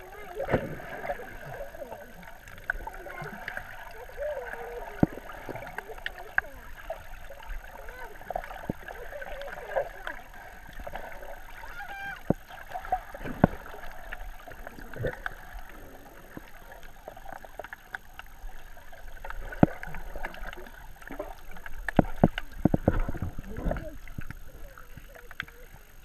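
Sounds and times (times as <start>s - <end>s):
muffled underwater hiss: 0.0s - 26.0s
water gurgles: 0.0s - 26.0s.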